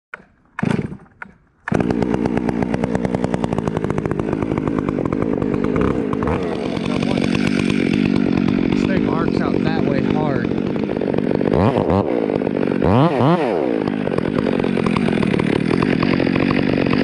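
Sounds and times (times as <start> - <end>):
chainsaw starting and running: 0.2 - 17.0.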